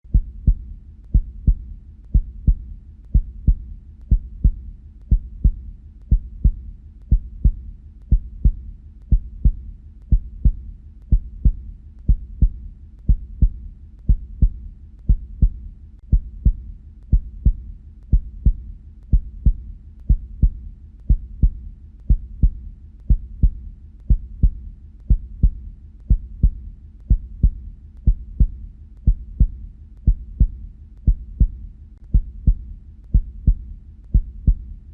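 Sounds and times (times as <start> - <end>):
heartbeat: 0.0 - 34.9.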